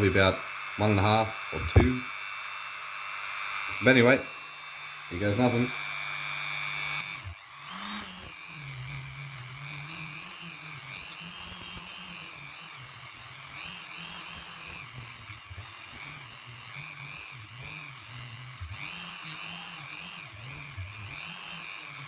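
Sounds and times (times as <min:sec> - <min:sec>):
rotary tool sanding metal: 0:00.0 - 0:22.0.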